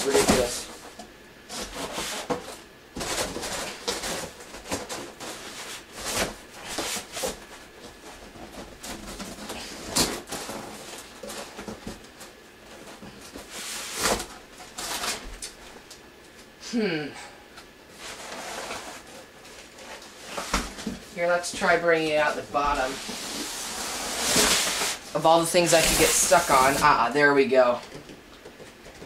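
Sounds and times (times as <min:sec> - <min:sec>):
cardboard and styrofoam scraping: 0:00.0 - 0:12.0, 0:12.7 - 0:15.4, 0:17.9 - 0:27.2.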